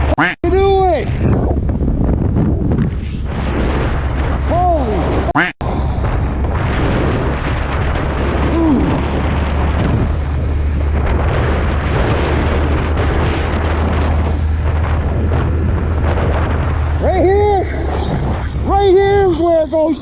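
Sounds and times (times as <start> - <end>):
wind buffeting microphone: 0.0 - 20.0
motorcycle engine running: 1.4 - 18.7.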